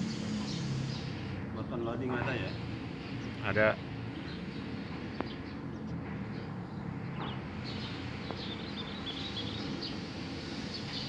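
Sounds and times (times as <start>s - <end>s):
low machinery hum: 0.0s - 11.0s
small birds chirping: 0.0s - 11.0s.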